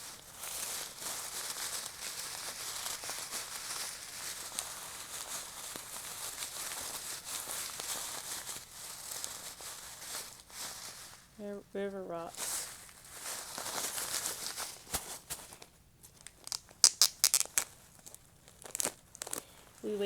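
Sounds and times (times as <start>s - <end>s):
plastic bag of rocks rattling: 0.0s - 11.4s, 12.3s - 20.0s.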